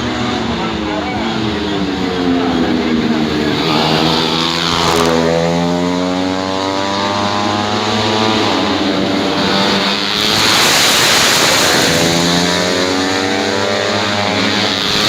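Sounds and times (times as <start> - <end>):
motorcycle engines revving hard: 0.0 - 15.0.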